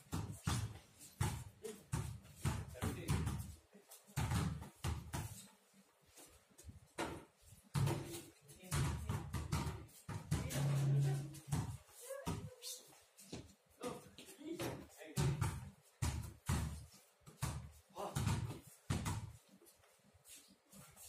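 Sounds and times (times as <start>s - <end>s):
basketballs bouncing on concrete: 0.0s - 20.4s.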